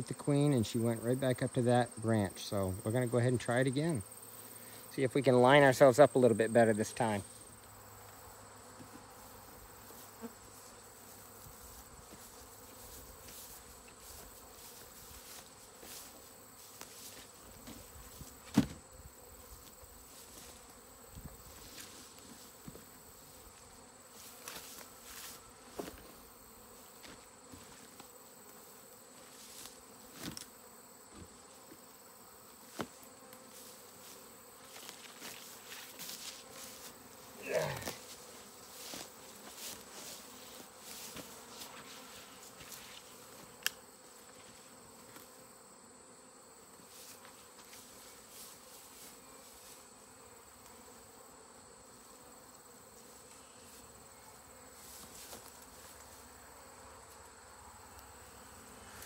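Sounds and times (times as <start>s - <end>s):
bees buzzing: 3.7s - 59.0s
bee flying past: 7.5s - 59.0s.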